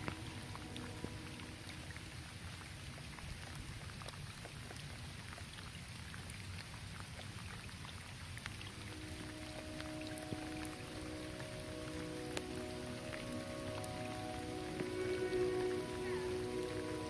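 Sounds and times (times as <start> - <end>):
light rain on a roof: 0.0 - 17.0.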